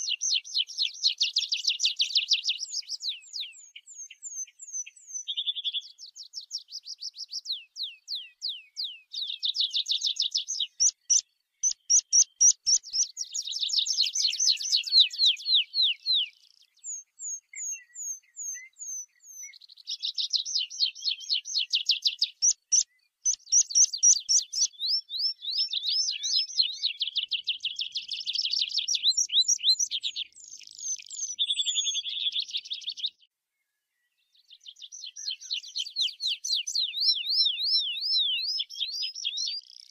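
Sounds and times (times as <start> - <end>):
bird singing high trills: 0.0 - 33.2, 34.4 - 39.9.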